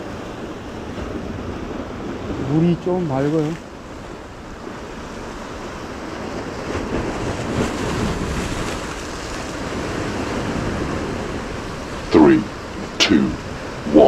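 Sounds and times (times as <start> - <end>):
ocean surf breaking on rocks: 0.0 - 14.0.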